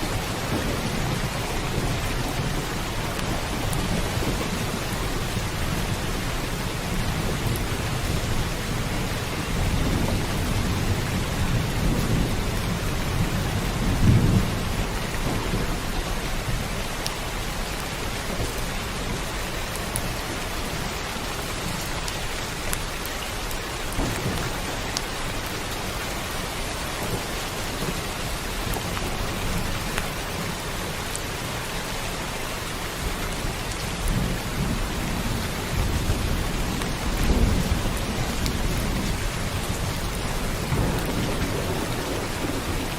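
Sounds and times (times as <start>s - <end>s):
rolling thunder: 0.0s - 20.3s, 23.8s - 30.6s, 33.0s - 42.9s
heavy rain: 0.0s - 42.9s.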